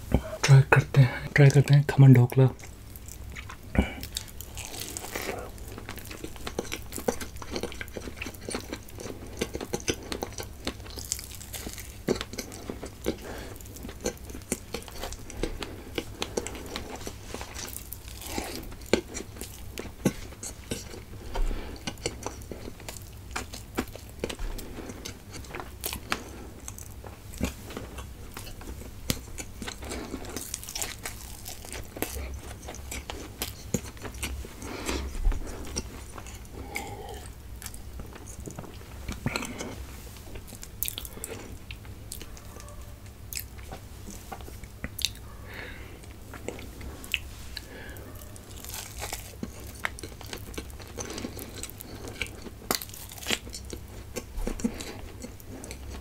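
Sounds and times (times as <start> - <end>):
person chewing with mouth clicks: 2.6 - 56.0.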